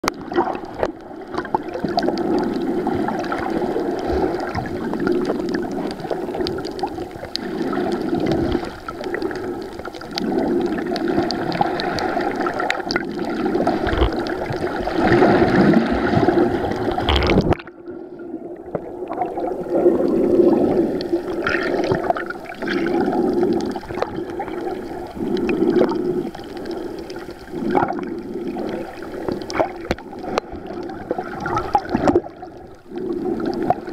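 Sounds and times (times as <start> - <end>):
underwater gurgling and swishing: 0.0 - 33.9.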